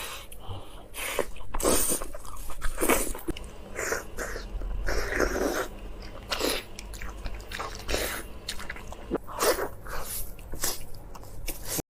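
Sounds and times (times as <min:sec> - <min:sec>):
person chewing crisp food: 0:00.0 - 0:11.8.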